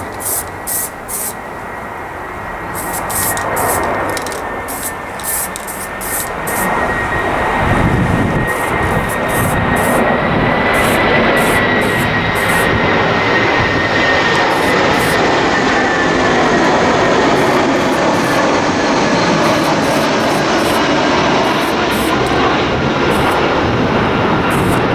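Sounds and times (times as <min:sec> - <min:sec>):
aerosol can hissing: 0:00.0 - 0:01.4, 0:02.8 - 0:12.8, 0:13.9 - 0:24.9
faint high whine: 0:00.0 - 0:24.9
steady rushing noise: 0:02.7 - 0:24.9.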